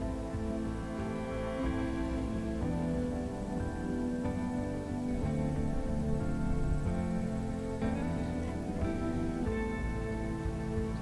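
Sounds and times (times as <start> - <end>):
slow soft instrumental music: 0.0 - 11.0.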